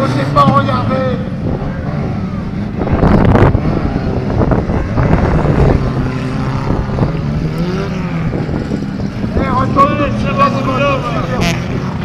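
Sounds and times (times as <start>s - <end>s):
stock car engines running hard: 0.0s - 12.0s.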